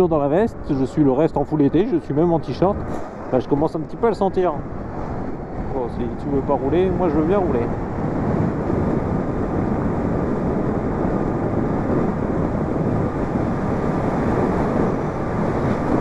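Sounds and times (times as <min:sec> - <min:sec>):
road noise: 0:00.0 - 0:16.0
wind rush on microphone: 0:00.0 - 0:16.0.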